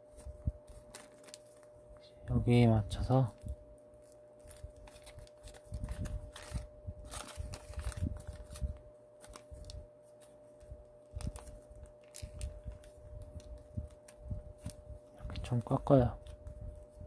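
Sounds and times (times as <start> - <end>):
paper folding rustles: 0.0 - 1.8, 3.4 - 15.5.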